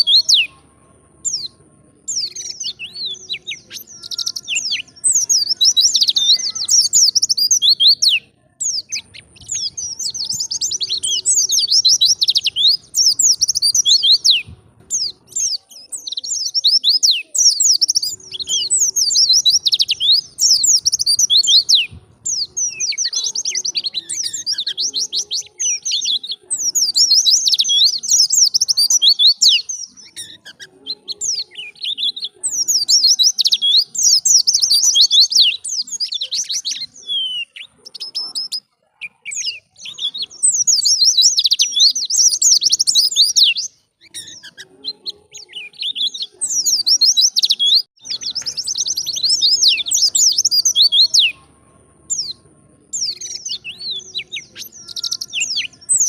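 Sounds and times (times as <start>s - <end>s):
bird twittering: 0.0s - 0.6s, 1.2s - 51.5s.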